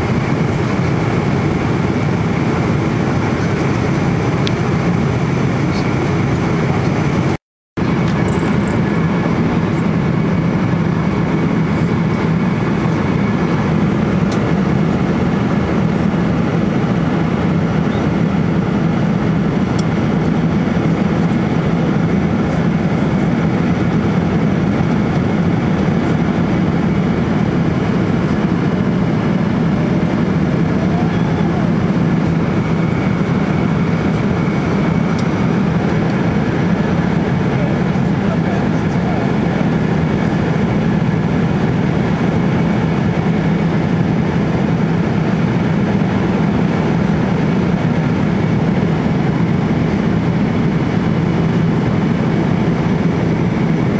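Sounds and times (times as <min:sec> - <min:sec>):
airliner engine drone: 0:00.0 - 0:53.9.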